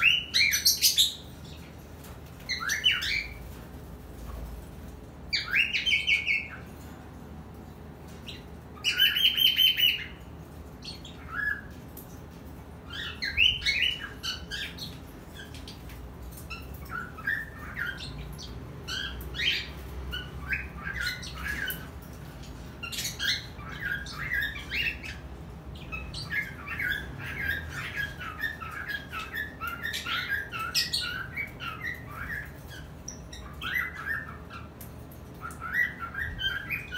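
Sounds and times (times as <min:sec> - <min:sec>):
birds shrill calls: 0:00.0 - 0:03.7, 0:05.3 - 0:06.9, 0:08.1 - 0:36.9
birds chirping and chattering: 0:00.0 - 0:36.9.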